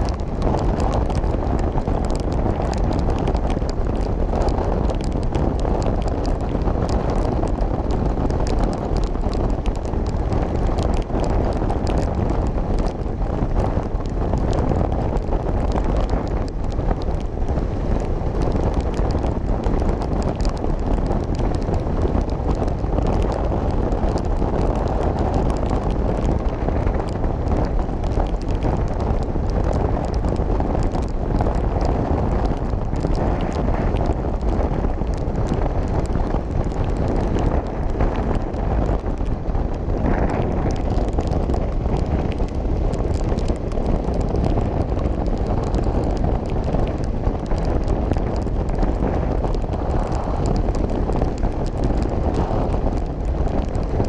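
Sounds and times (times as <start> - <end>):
motorcycle running and road noise: 0.0 - 54.0
wind rush over microphone: 0.0 - 54.0.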